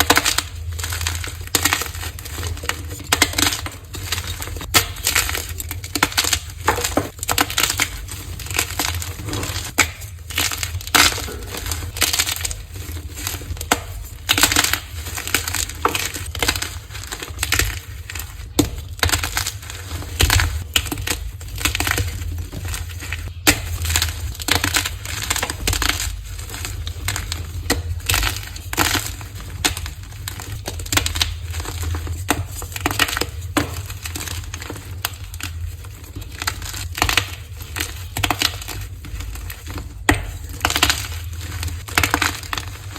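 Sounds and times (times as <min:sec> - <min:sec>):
chalk crunching and crumbling: 0:00.0 - 0:42.9.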